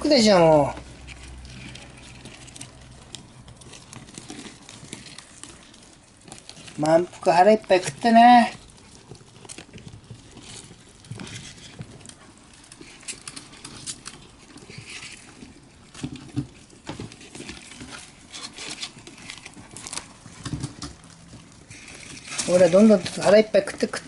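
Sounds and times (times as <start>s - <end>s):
rustling paper: 0.0s - 24.0s
small scratches and clicks: 0.6s - 24.0s.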